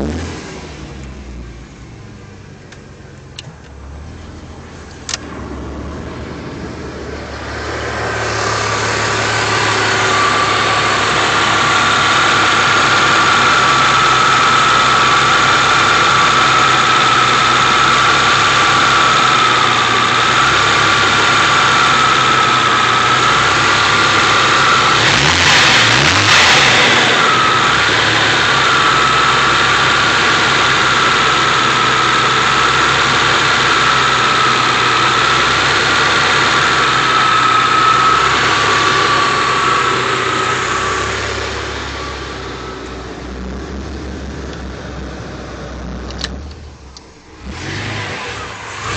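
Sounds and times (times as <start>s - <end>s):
engine rough idle: 0.8s - 48.9s
high whine: 2.7s - 48.9s.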